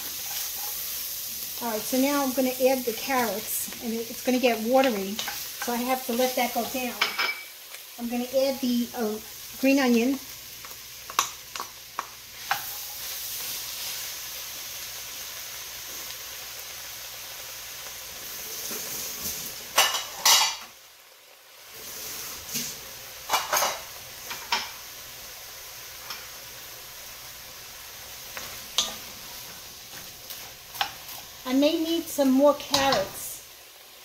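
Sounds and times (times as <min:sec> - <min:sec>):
vegetables sizzling in pot: 0:00.0 - 0:34.0.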